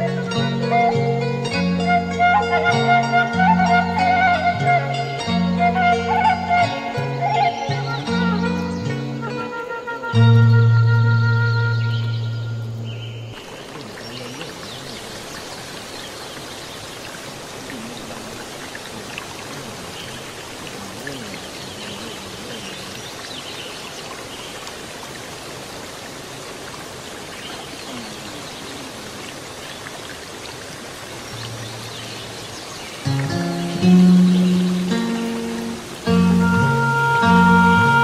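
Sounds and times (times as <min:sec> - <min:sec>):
flowing water rushing: 0:00.0 - 0:38.0.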